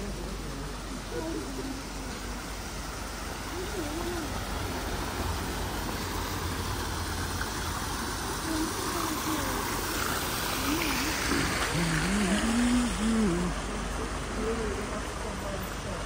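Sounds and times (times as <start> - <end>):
water cascading into pond: 0.0 - 16.0.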